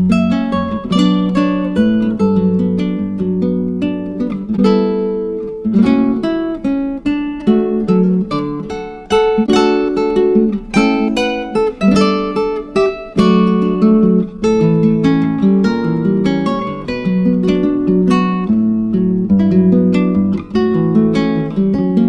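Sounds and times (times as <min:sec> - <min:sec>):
acoustic guitar music: 0:00.0 - 0:22.0.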